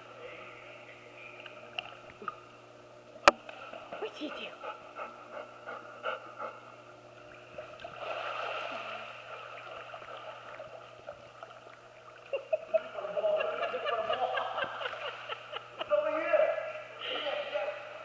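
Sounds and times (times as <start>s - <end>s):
water sloshing and gurgling: 1.3s - 15.8s.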